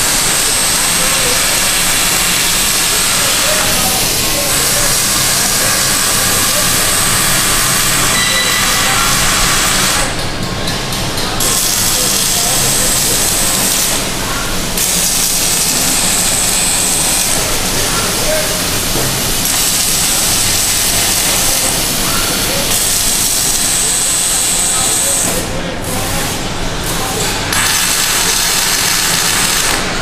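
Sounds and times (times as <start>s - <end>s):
welding arc hissing with spatter: 0.0s - 10.3s, 11.1s - 30.0s.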